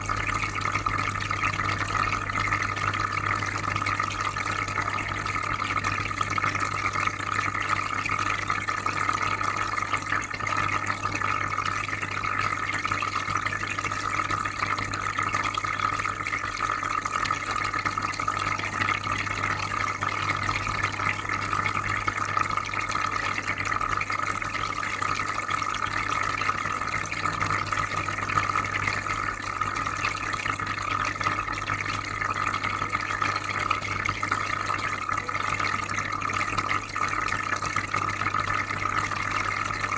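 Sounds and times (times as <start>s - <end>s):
aquarium filter humming: 0.0s - 39.9s
soft bubbling water: 0.0s - 39.9s.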